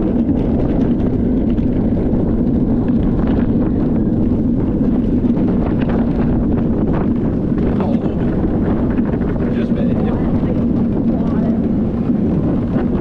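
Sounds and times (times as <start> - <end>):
wheels rolling on concrete: 0.0 - 13.0
wind rushing over microphone: 0.0 - 13.0.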